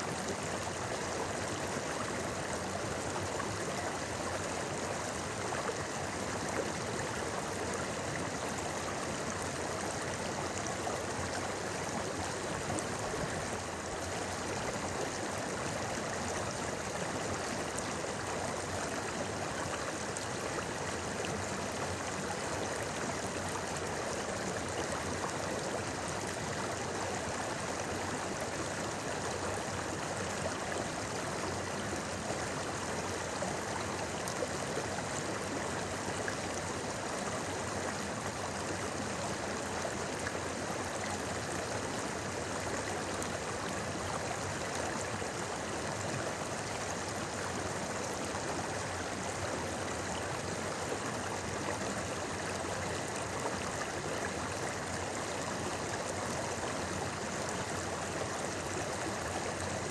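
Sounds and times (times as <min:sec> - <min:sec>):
river flowing over rocks: 0:00.1 - 0:59.9.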